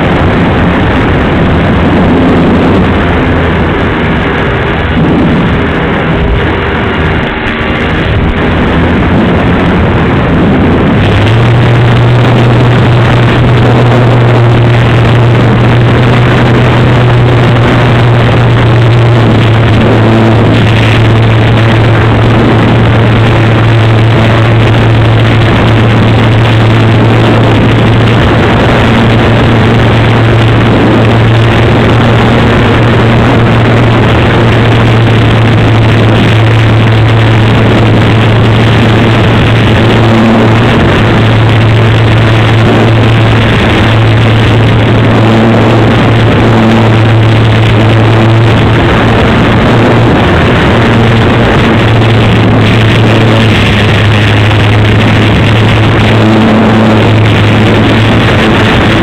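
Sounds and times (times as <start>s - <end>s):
electric motor and propeller hum: 0.0s - 59.0s
rushing airflow noise: 0.0s - 59.0s.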